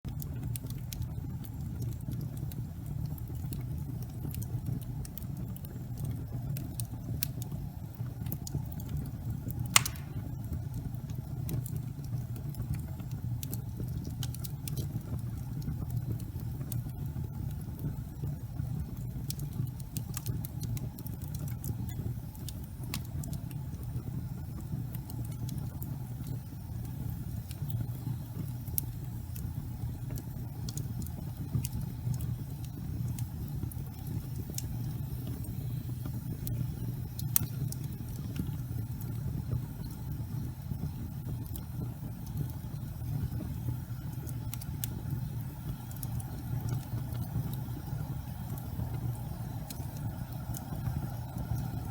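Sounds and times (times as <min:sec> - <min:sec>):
fire burning in a fireplace: 0:00.1 - 0:51.9
fire crackling and popping: 0:00.1 - 0:51.9.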